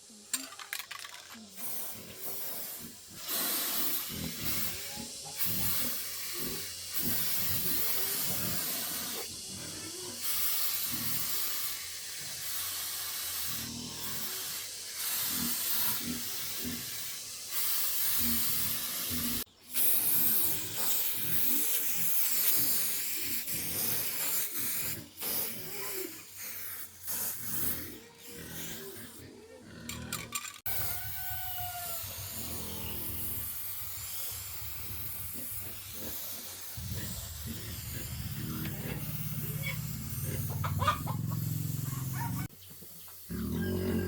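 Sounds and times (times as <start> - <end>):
steady hiss: 1.3 - 28.5, 30.6 - 44.0.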